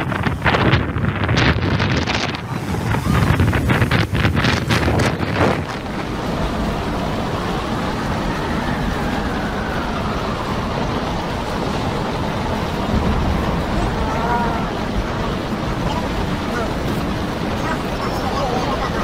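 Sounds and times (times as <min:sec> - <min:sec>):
gale-force wind rushing: 0:00.0 - 0:19.0.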